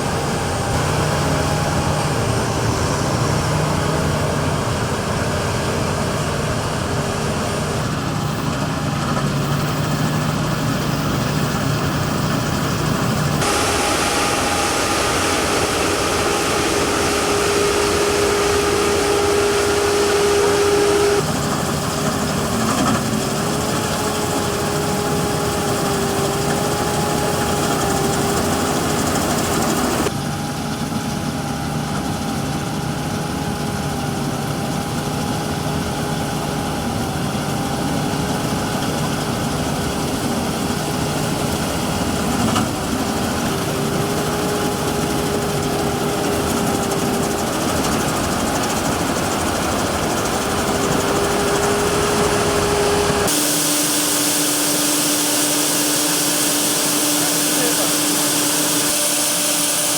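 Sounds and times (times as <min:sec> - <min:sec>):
steady whine: 0:00.0 - 0:30.8, 0:34.0 - 0:59.9
combine harvester engine drone: 0:00.0 - 0:59.9.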